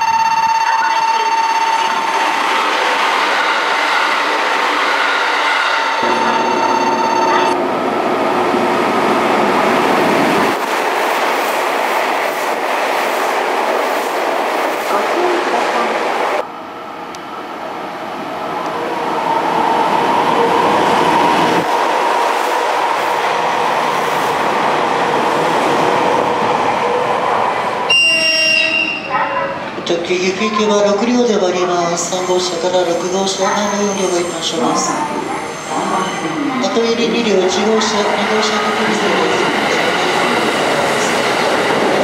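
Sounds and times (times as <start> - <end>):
electric train passing: 0.0 - 42.0
train approaching platform: 0.0 - 42.0.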